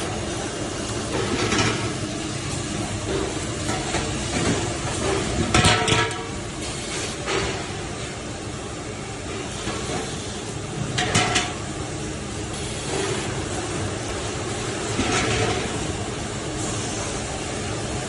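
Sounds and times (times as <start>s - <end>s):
production line machinery running: 0.0s - 18.0s.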